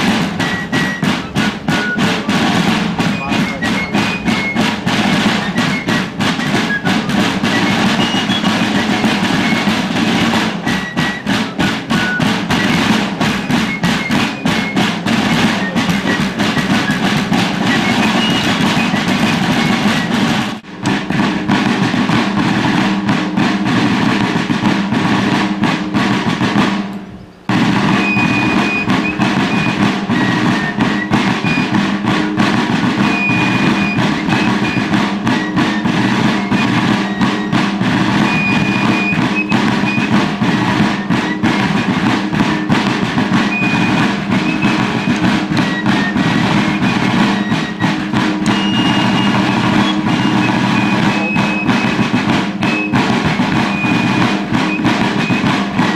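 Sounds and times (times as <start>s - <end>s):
field drums rolling: 0.0s - 55.9s
fife melody: 0.0s - 55.9s.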